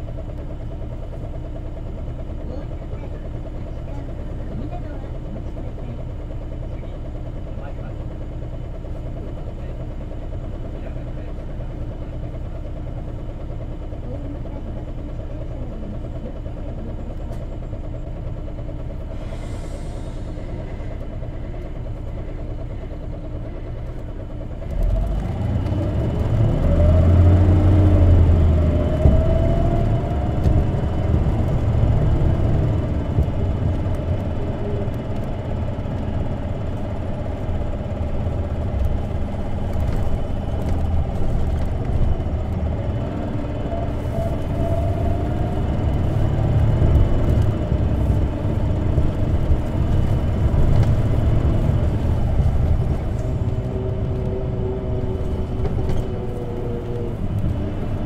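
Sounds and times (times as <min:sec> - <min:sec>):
bus engine rumble and whine: 0:00.0 - 0:58.0.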